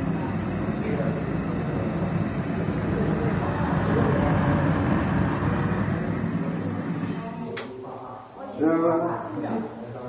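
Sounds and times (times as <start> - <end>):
gas burner rushing: 0.0 - 8.5.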